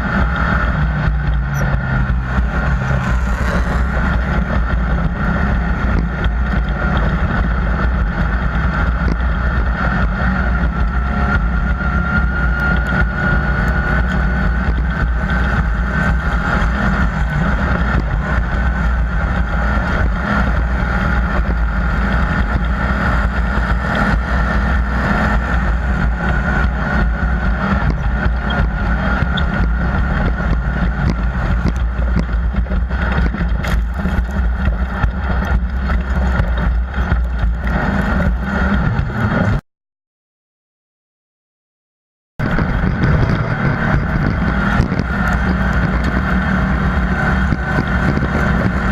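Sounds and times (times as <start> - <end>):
off-road vehicle engine running: 0.0 - 39.6, 42.4 - 48.9.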